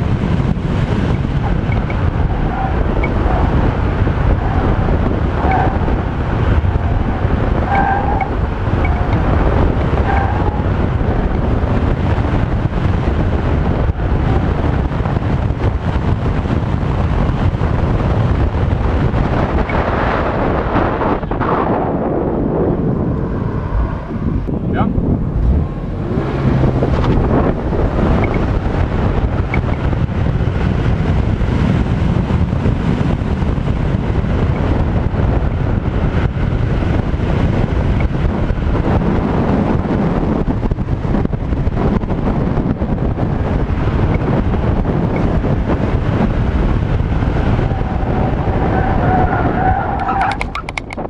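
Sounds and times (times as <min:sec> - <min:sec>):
car engine running hard: 0:00.0 - 0:51.0.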